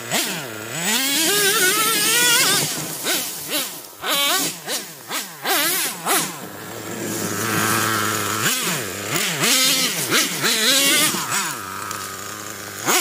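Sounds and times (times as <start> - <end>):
small engine revving in blips: 0.0 - 13.0.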